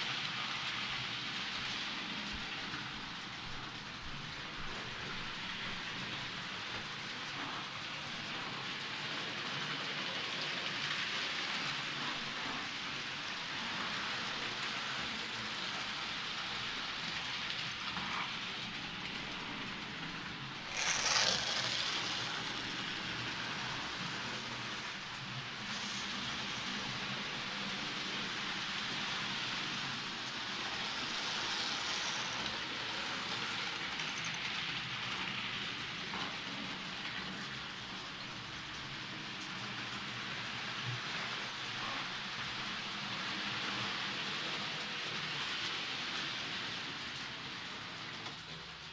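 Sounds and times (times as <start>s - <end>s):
model train wheels rattling on track: 0.0s - 48.9s.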